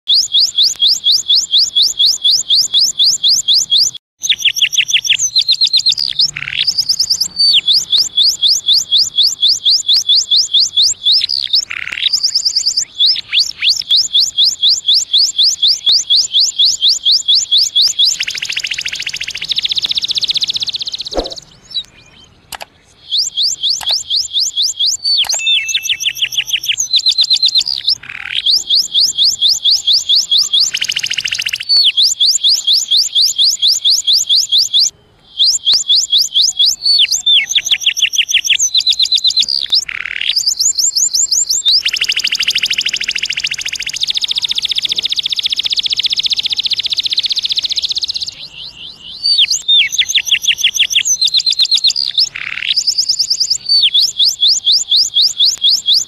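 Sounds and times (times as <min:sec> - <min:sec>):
canary singing: 0:00.1 - 0:56.0.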